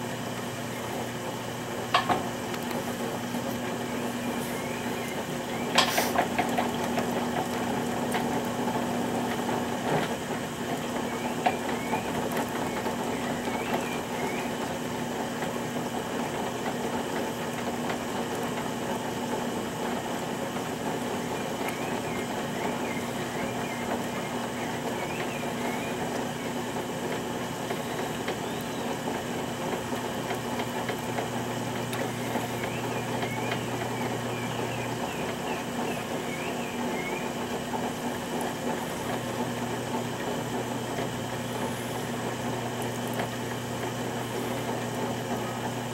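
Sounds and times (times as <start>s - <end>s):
potter's wheel motor hum: 0.0s - 45.9s.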